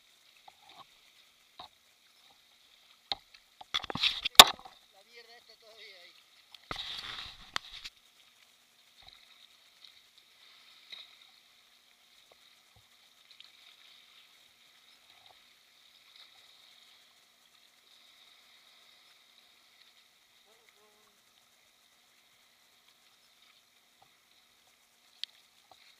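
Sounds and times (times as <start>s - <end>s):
kayak paddling through water: 0.0s - 25.9s.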